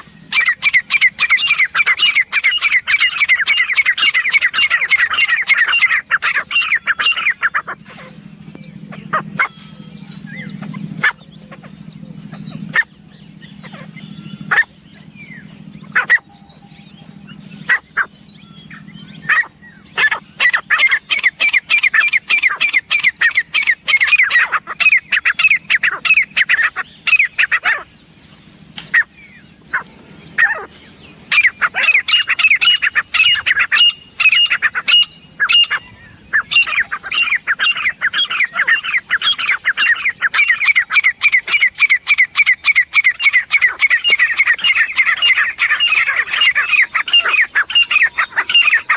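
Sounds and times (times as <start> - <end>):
francolin calling: 0.0 - 48.9.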